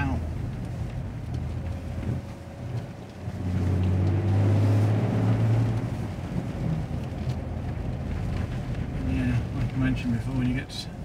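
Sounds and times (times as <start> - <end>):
car engine drone from cabin: 0.0 - 11.0.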